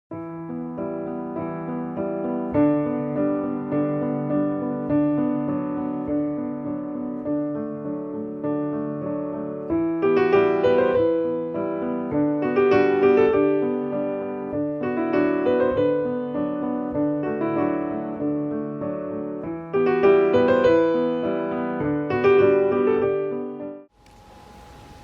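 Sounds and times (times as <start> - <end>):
slow piano music: 0.1 - 25.0.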